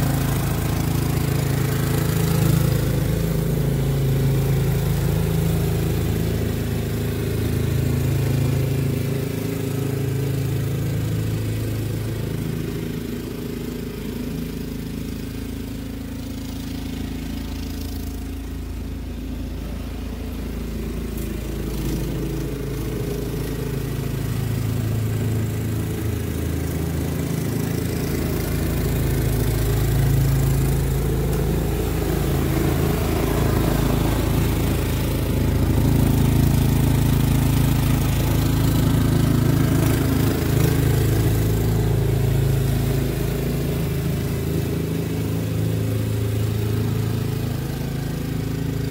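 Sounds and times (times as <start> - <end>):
snowblower engine running: 0.0 - 48.9.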